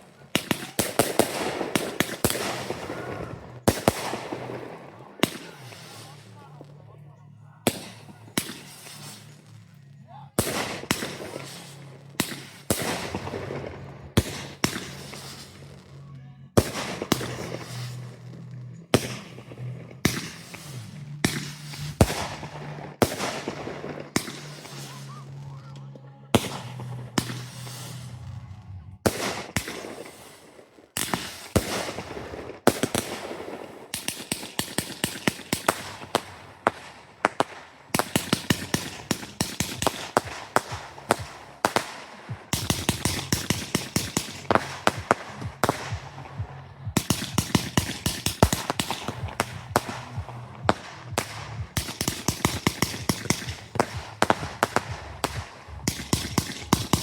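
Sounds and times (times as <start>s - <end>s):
fireworks bangs: 0.0s - 7.0s, 7.6s - 57.0s.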